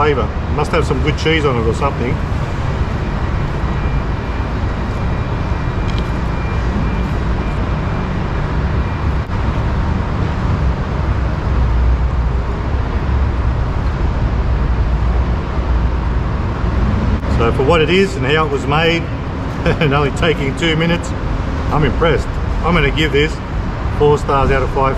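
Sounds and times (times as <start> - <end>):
city road traffic rumble: 0.0 - 24.9.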